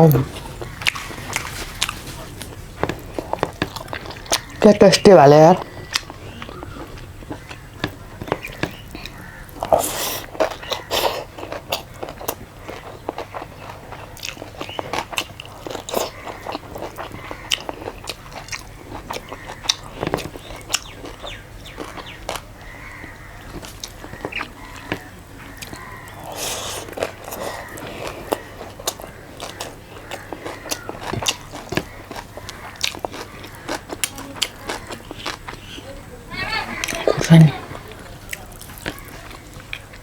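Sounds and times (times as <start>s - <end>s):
person chewing food: 0.0s - 4.7s, 5.5s - 36.0s, 36.7s - 40.0s
food crunches: 5.9s - 35.8s, 36.8s - 40.0s.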